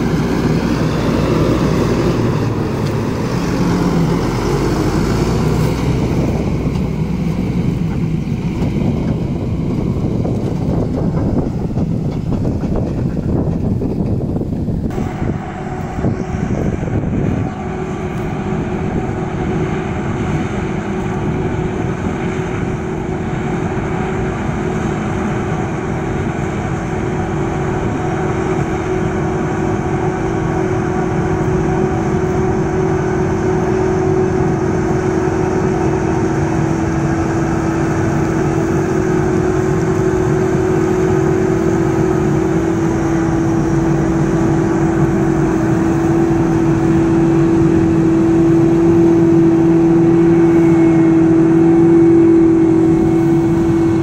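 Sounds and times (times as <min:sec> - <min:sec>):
engine and machine drone: 0:00.0 - 0:54.0.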